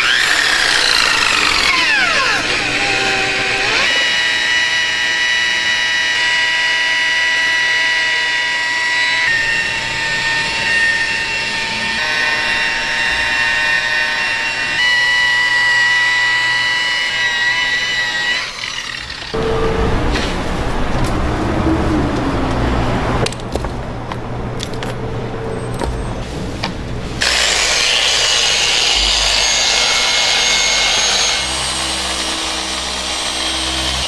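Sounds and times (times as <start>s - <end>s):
machine high whine: 0.0s - 22.0s, 27.2s - 34.0s.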